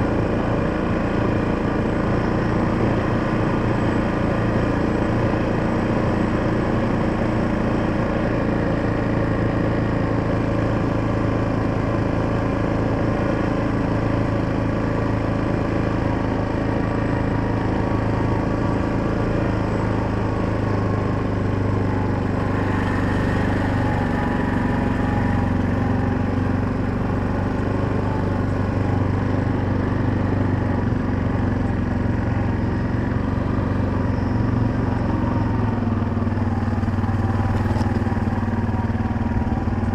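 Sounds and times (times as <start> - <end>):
small vehicle engine running: 0.0 - 39.9.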